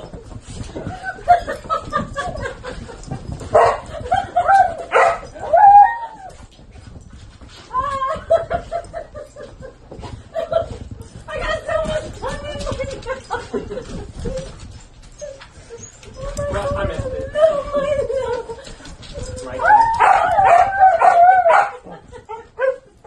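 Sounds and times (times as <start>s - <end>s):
dogs yipping and whining: 0.0s - 9.5s, 13.3s - 23.0s.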